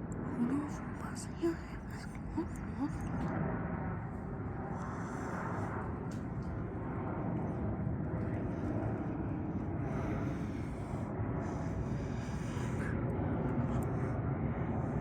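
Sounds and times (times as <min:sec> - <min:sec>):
jet engines running: 0:02.3 - 0:15.0.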